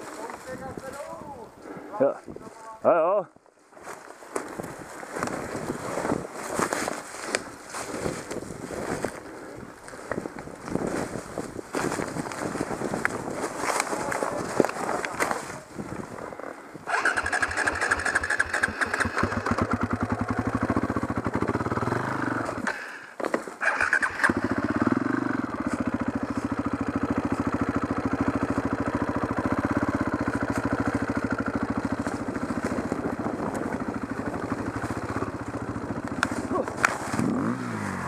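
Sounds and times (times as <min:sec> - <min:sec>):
dirt bike engine running: 0:04.5 - 0:23.0, 0:23.6 - 0:38.0.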